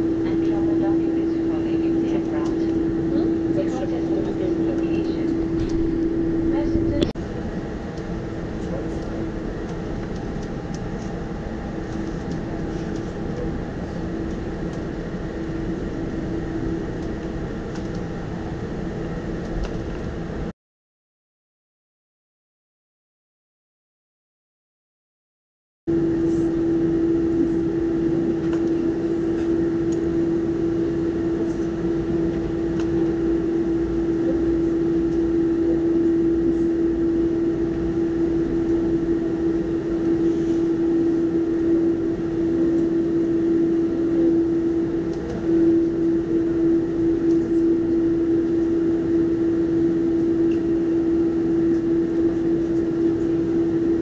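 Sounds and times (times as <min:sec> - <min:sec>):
aircraft cabin engine hum: 0:00.0 - 0:20.5, 0:25.9 - 0:54.0.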